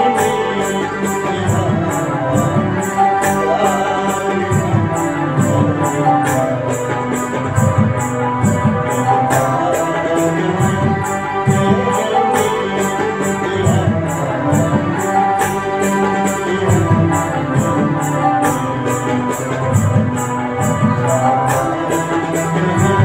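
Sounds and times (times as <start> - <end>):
electronic keyboard melody: 0.0 - 23.0
low drum beats: 0.0 - 23.0.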